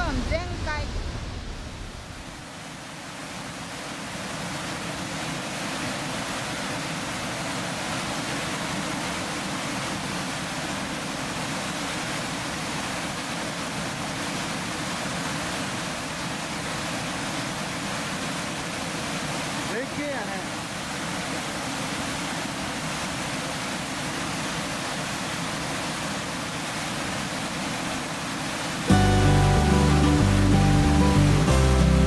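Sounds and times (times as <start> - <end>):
waterfall crashing: 0.0 - 32.0.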